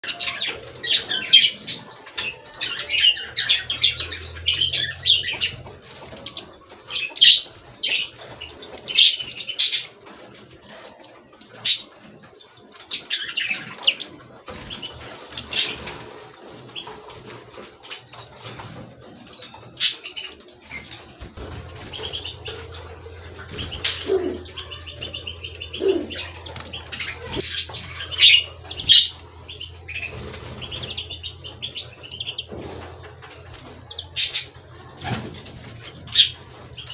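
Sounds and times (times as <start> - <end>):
finches chirping: 0.0 - 36.9
wings fluttering: 0.0 - 36.9.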